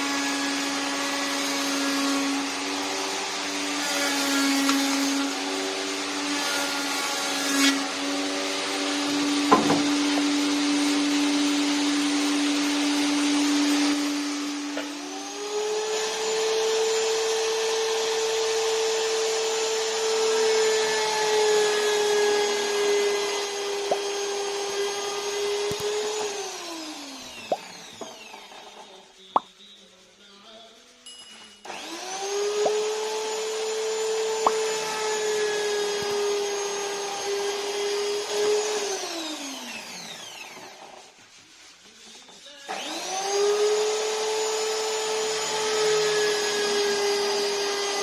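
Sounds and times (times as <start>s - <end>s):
table saw motor whining: 0.0s - 29.0s, 31.7s - 41.0s, 42.7s - 48.0s.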